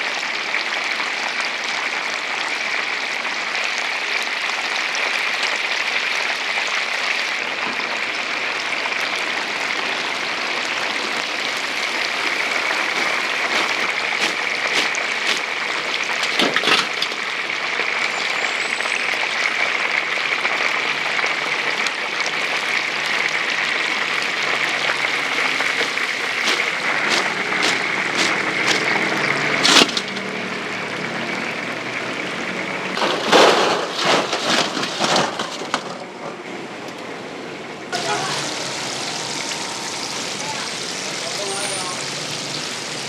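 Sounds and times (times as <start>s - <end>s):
oil sizzling in a deep fryer: 0.0s - 33.0s, 37.9s - 43.0s.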